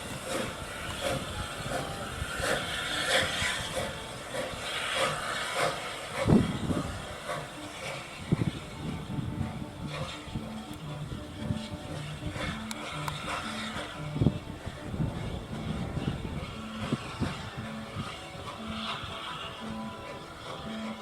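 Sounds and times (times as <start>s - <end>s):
hiss of steam: 0.0s - 21.0s
steam locomotive exhaust beats: 0.0s - 21.0s.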